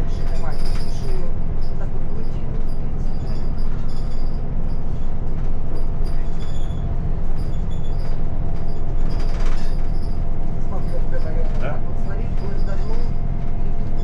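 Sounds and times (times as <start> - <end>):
vehicle engine rumble and hum: 0.0 - 14.0.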